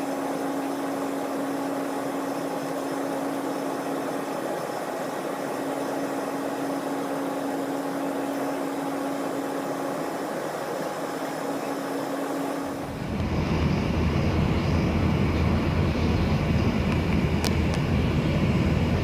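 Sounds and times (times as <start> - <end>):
airliner cabin hum: 0.0 - 19.0.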